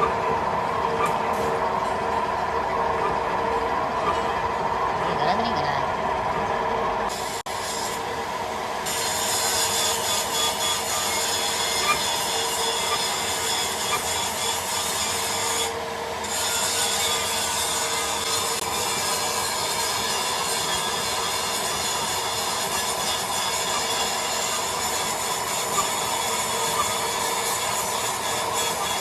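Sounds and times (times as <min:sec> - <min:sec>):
machine grinding: 0:00.0 - 0:29.0
machines whining: 0:00.0 - 0:29.0.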